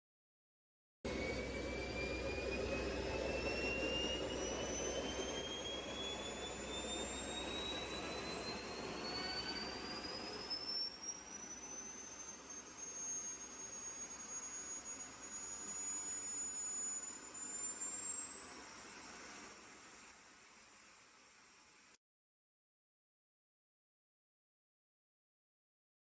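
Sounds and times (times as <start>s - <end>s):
small jet engine spooling up: 1.1s - 22.0s.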